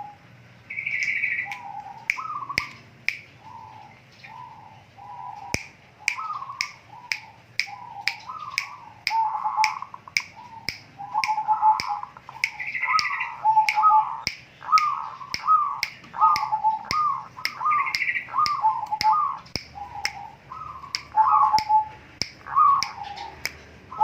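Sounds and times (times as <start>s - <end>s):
bird harsh calls: 0.0s - 24.0s
sharp clicks: 1.0s - 3.4s, 5.5s - 20.2s, 20.9s - 23.7s.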